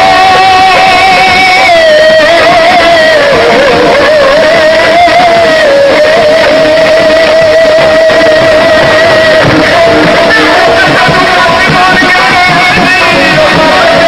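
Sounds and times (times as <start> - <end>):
loud music with wavering melody: 0.0 - 14.0.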